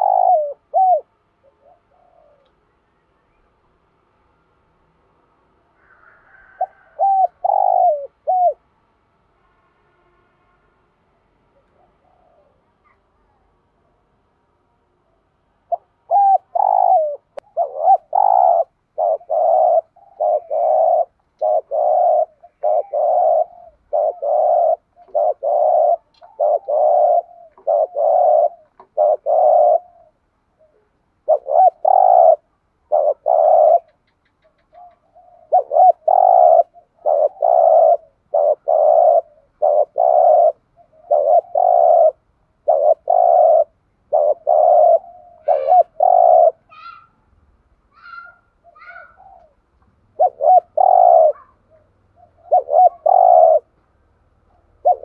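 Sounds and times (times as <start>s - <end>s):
dove cooing: 0.0s - 2.7s, 5.7s - 8.7s, 11.5s - 14.0s, 15.1s - 47.1s, 48.0s - 53.8s, 54.4s - 55.0s.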